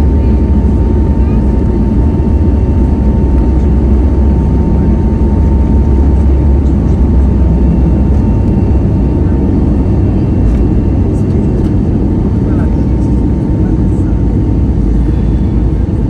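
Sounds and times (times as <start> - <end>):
jet engine and airflow rumble: 0.0 - 16.0
thin steady whine: 0.0 - 16.0.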